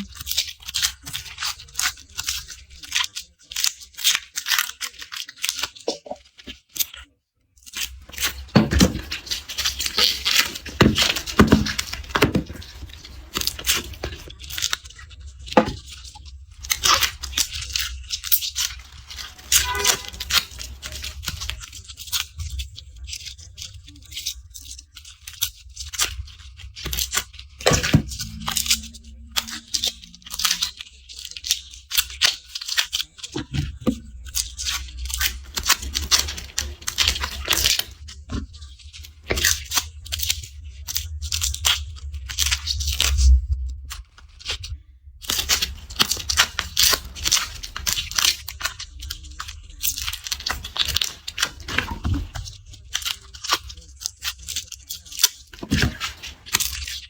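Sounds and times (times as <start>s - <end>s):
garlic skins crackling and tearing: 0.0s - 7.0s, 7.6s - 44.6s, 45.2s - 57.0s.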